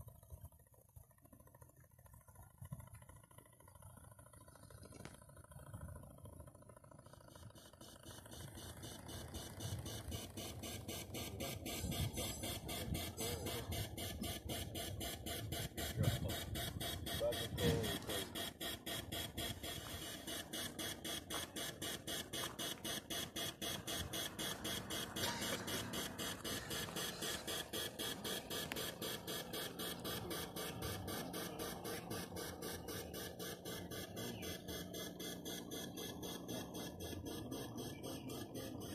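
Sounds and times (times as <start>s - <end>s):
simulated steam engine chuff: 3.1s - 38.9s.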